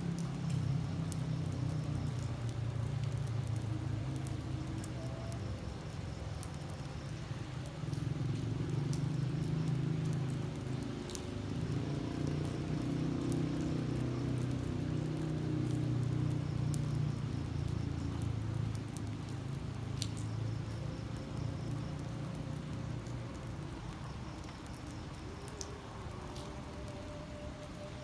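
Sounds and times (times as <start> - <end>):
rain on wet asphalt: 0.0 - 28.0
drops ticking close by: 0.1 - 27.5.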